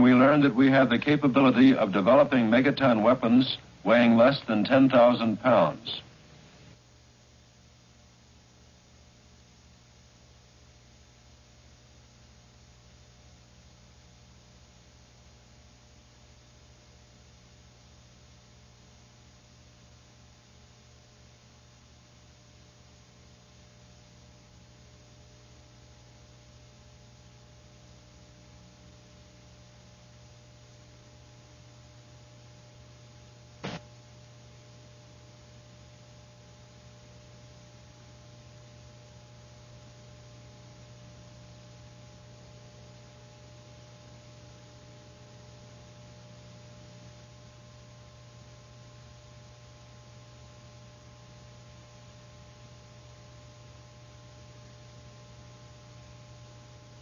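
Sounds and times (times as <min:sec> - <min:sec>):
film soundtrack hum and hiss: 0:00.0 - 0:57.0.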